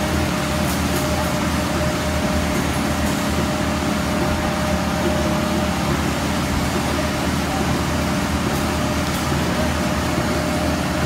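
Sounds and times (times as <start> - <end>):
concrete pump engine drone: 0.0 - 11.0
steady machine whine: 0.0 - 11.0.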